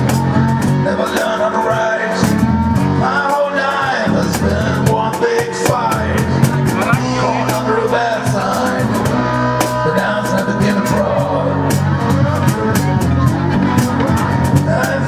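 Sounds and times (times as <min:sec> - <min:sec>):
acoustic guitars: 0:00.0 - 0:15.0
cajon beat: 0:00.0 - 0:15.0.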